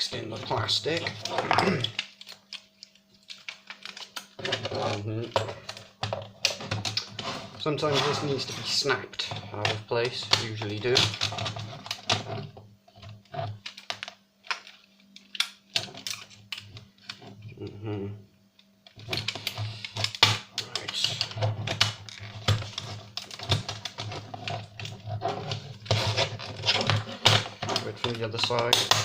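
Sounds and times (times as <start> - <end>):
plastic and metal parts clicking: 0.2 - 7.3, 8.0 - 17.4, 18.6 - 29.0.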